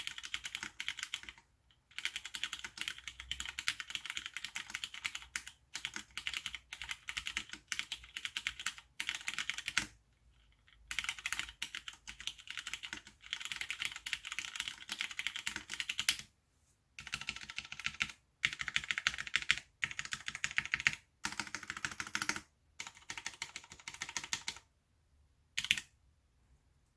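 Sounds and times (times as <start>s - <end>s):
rapid keyboard typing: 0.0s - 16.3s, 17.0s - 24.7s, 25.6s - 25.9s.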